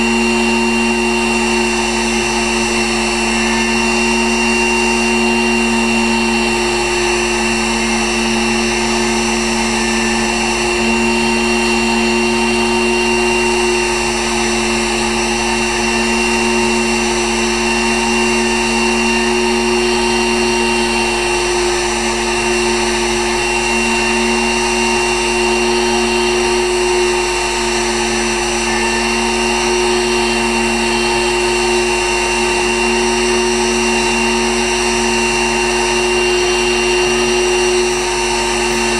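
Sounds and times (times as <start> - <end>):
engraving machine motor whine: 0.0 - 38.9.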